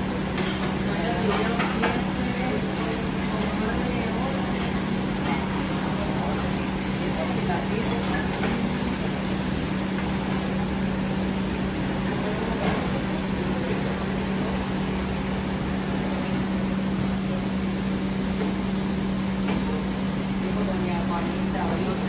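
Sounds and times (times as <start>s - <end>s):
exhaust hood fan drone: 0.0s - 22.0s.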